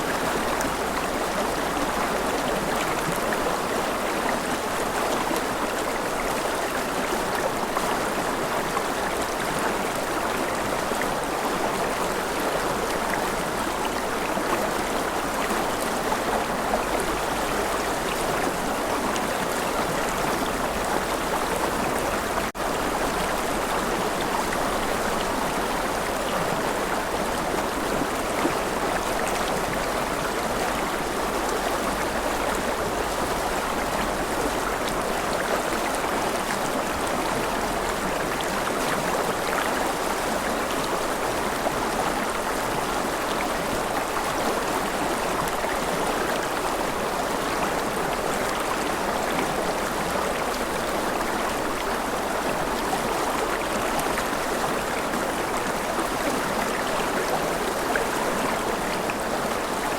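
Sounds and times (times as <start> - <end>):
river water babbling over stones: 0.0 - 59.9.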